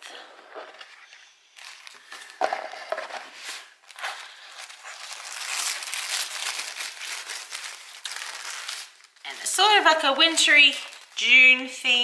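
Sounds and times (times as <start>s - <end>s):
tissue paper rustling: 0.2s - 12.0s.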